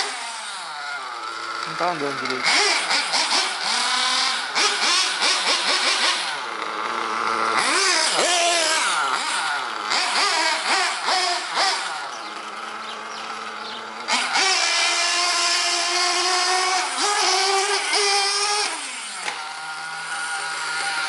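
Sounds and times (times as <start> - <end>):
rc buggy motor whining: 0.0 - 21.0.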